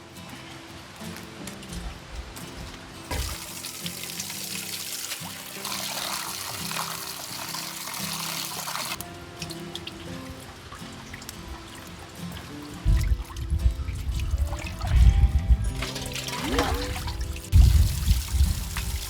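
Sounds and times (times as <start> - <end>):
faint water drips: 0.0 - 19.0
rushing running water: 0.0 - 19.0
soft background music: 0.0 - 19.0.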